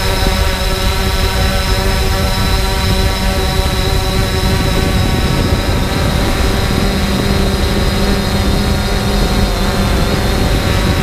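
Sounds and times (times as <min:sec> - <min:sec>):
drone propellers whining: 0:00.0 - 0:11.0
low rumble: 0:00.0 - 0:11.0.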